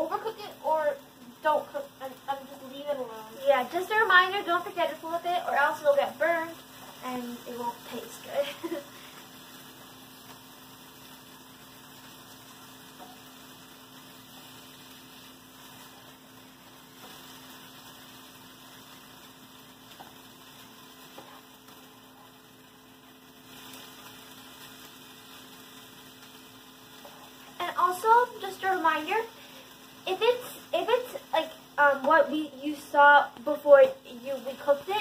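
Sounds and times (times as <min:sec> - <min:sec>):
chicken sizzling in a pan: 0:00.0 - 0:35.0
electrical hum: 0:00.0 - 0:35.0.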